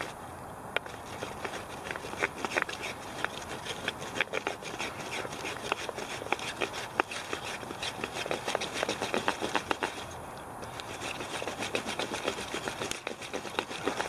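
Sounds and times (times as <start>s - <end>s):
wooden board scraping on plank: 0.8s - 14.0s.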